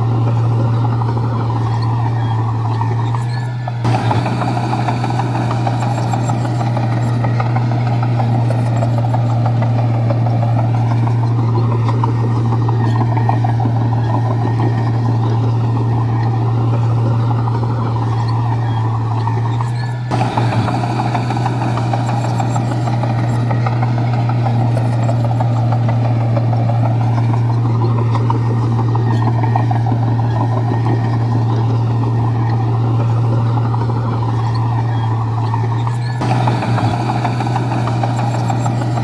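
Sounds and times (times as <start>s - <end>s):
bulldozer diesel engine running: 0.0s - 39.0s
mechanical clatter: 0.0s - 39.0s.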